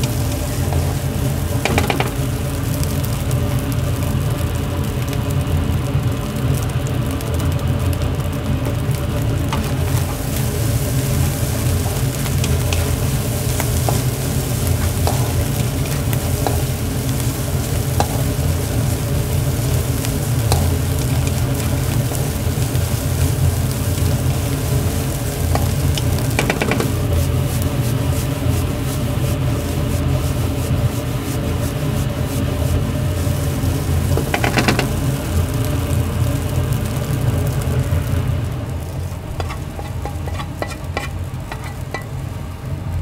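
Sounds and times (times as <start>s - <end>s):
stir-frying sizzle: 0.0s - 43.0s.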